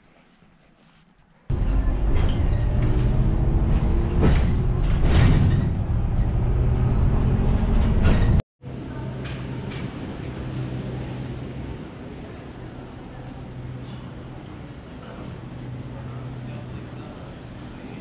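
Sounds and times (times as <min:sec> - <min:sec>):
street sound: 0:00.7 - 0:18.0
bus engine and road rumble: 0:01.5 - 0:18.0.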